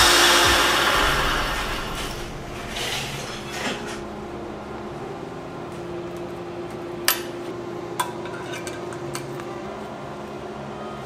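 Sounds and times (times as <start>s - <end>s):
low shop hum with held tone: 0.0s - 11.0s.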